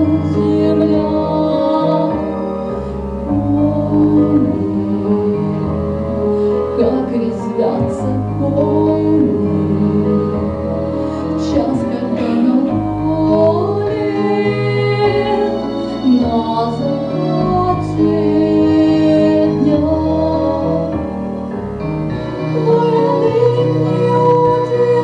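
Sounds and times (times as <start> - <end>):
woman singing with vibrato: 0.0 - 2.6, 3.3 - 6.1, 6.7 - 21.0, 22.4 - 25.0
instrumental accompaniment: 0.0 - 25.0.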